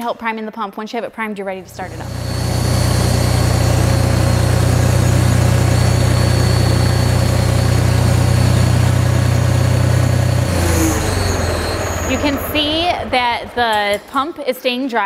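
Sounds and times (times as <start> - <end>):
tractor engine idling: 1.7 - 14.3.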